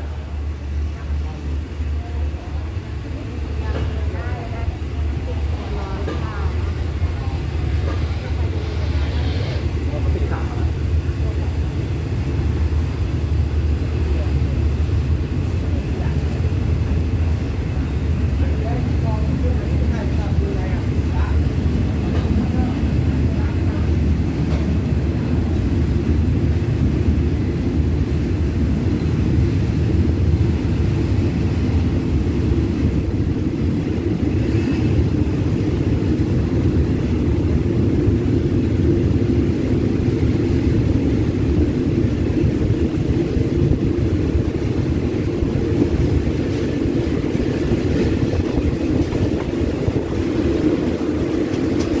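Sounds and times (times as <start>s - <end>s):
train rumbling: 0.0s - 52.0s.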